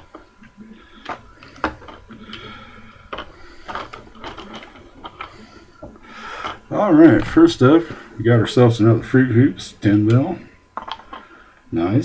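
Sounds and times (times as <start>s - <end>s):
plastic bottles clicking and tapping: 0.0s - 12.0s
rustling: 0.0s - 12.0s.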